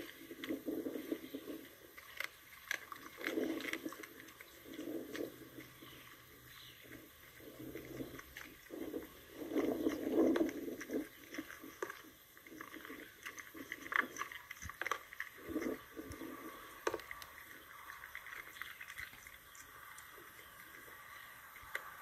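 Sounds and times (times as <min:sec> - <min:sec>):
dog chewing and crunching: 0:00.0 - 0:22.0.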